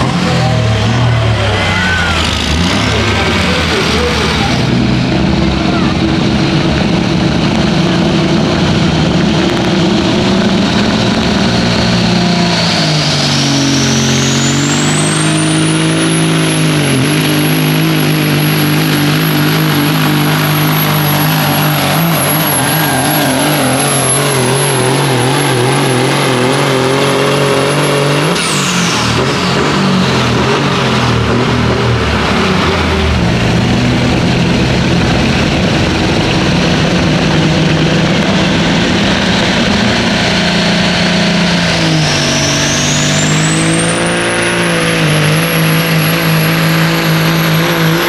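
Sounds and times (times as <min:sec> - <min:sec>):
diesel engine at full throttle: 0:00.0 - 0:48.0
turbocharger whine: 0:00.0 - 0:48.0.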